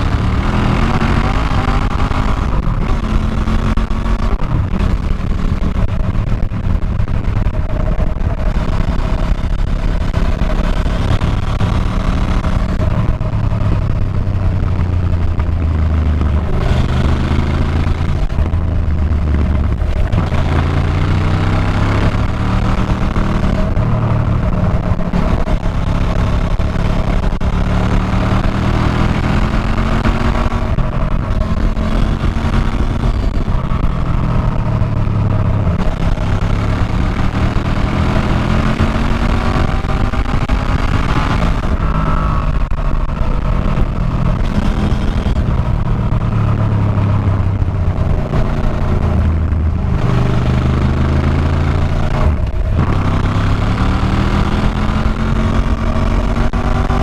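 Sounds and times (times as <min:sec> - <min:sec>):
motorcycle engine shifting gears: 0:00.0 - 0:57.0
wind and road noise: 0:00.0 - 0:57.0.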